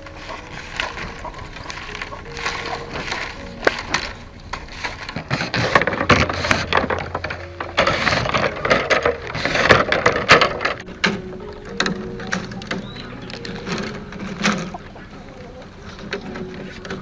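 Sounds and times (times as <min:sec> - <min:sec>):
bamboo strips rustling and scraping: 0:00.0 - 0:17.0.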